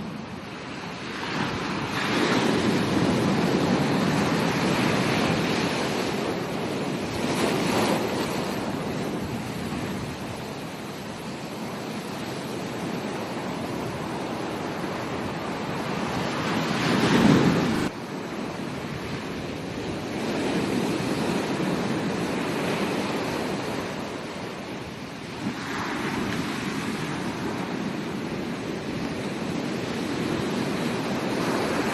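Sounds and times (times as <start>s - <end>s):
ocean surf breaking on beach: 0.0s - 31.9s.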